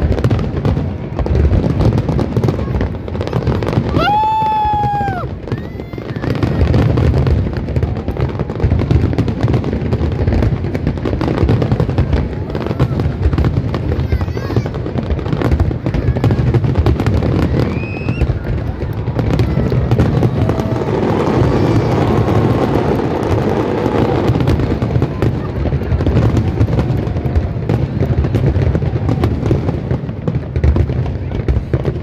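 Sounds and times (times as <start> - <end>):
firework bangs and crackling: 0.0 - 32.0.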